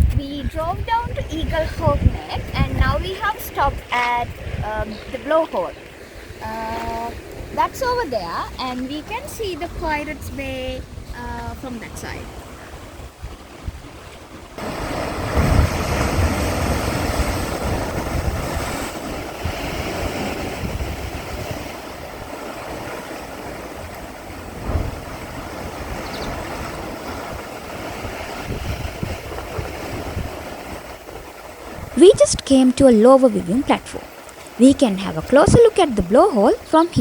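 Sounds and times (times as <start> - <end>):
sea surf crashing: 0.0 - 37.0
wind buffeting microphone: 0.0 - 37.0.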